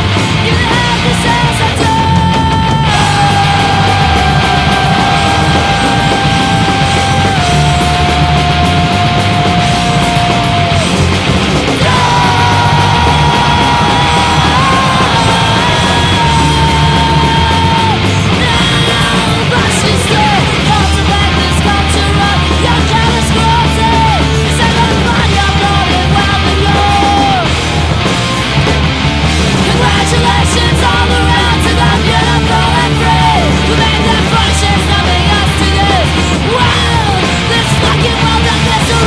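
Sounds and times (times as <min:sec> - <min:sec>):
crust punk band playing: 0:00.0 - 0:39.0.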